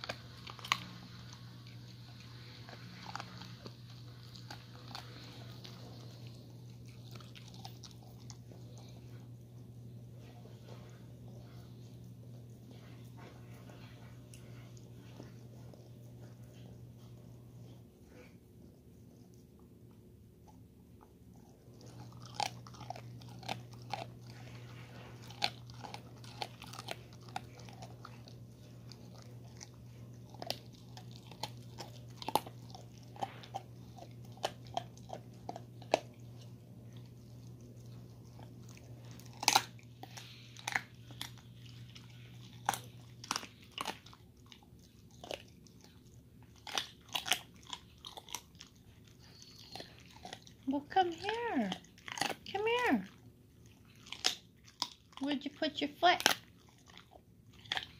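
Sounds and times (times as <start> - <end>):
dog chewing and crunching bones: 0.0 - 57.9.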